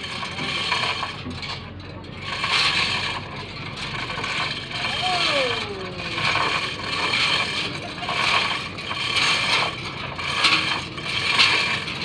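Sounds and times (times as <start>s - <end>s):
chain hoist rattling and clicking: 0.0s - 12.0s.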